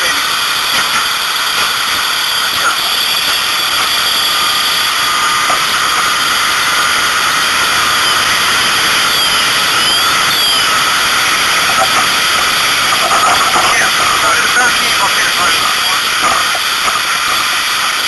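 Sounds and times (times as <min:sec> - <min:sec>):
machine rushing hiss: 0:00.0 - 0:18.0
faint whistle-like glides: 0:00.5 - 0:18.0.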